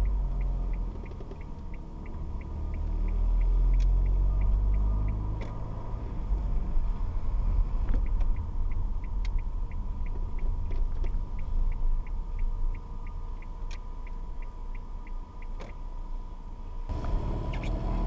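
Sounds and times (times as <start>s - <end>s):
light regular ticking: 0.0s - 15.9s
faint steady whine: 0.0s - 17.2s
engine and road rumble: 0.0s - 18.0s.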